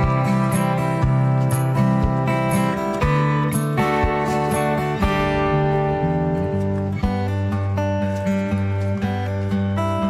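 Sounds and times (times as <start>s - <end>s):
strummed guitar music with beat: 0.0s - 10.0s.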